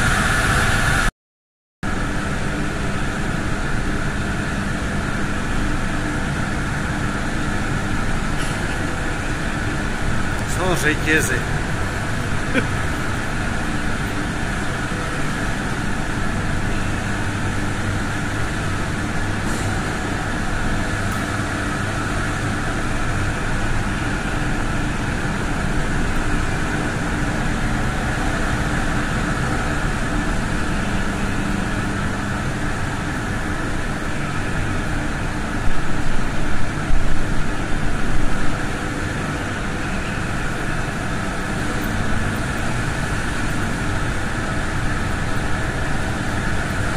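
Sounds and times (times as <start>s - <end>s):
generating units humming: 0.0s - 1.1s, 1.8s - 46.9s.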